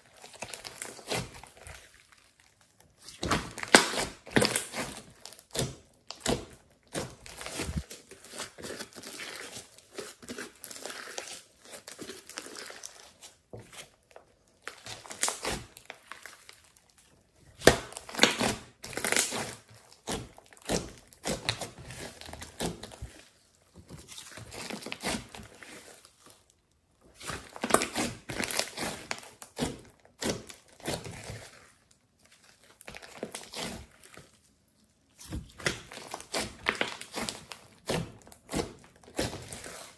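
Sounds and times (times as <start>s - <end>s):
wet squelching slime: 0.0s - 39.9s.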